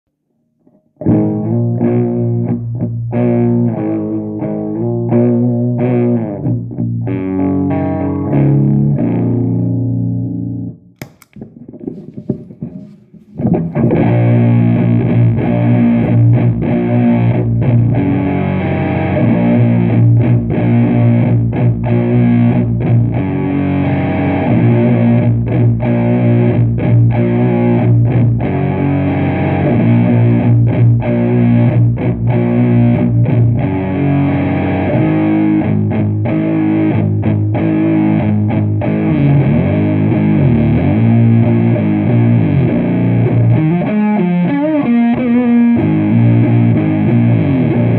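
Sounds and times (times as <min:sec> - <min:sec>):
distorted electric guitar chords: 0:01.0 - 0:10.7, 0:13.4 - 0:47.9.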